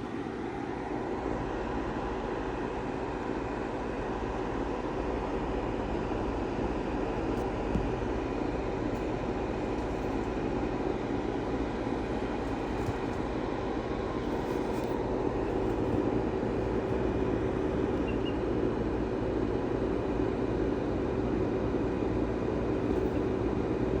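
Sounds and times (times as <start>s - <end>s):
mechanical hum with tones: 0.0s - 24.0s.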